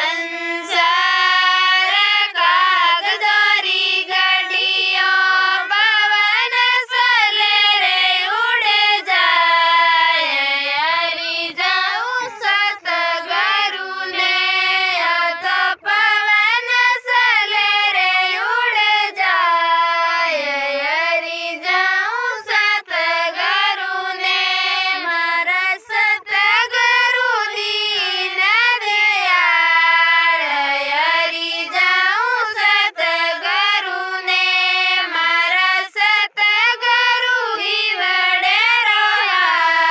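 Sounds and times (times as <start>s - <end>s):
woman singing devotional song: 0.0s - 39.9s.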